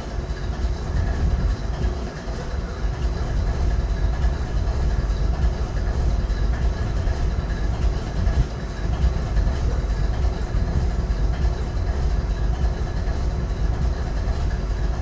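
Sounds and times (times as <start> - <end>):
diesel locomotive engine idling: 0.0 - 15.0
faint steady hum: 0.0 - 15.0.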